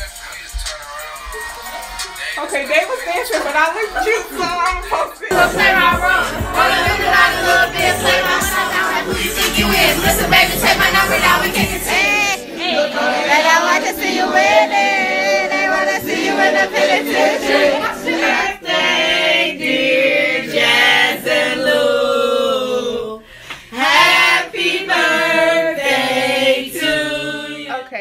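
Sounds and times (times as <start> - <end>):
group singing a cappella: 0.0 - 28.0.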